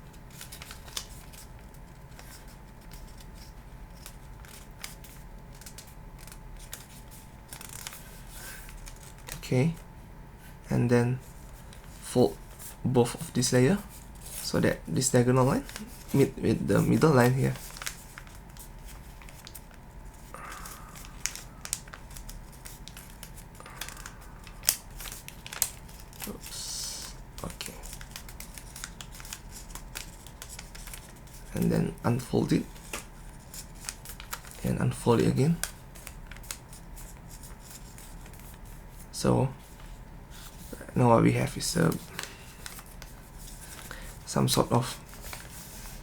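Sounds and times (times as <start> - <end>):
paper crinkling while folded: 0.1 - 9.9, 11.1 - 46.0
paper rustling: 0.2 - 9.8, 11.2 - 46.0.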